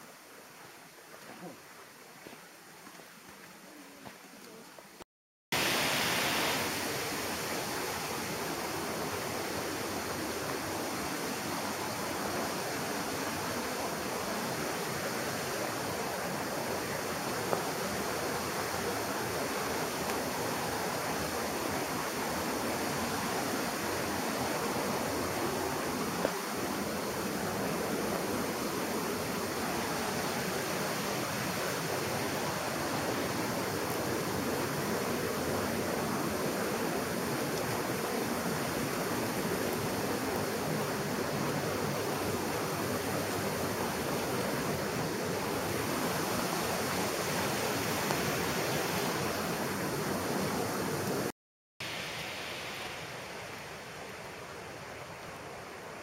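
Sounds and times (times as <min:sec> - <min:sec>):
river and waterfall rushing: 0:05.6 - 0:56.0.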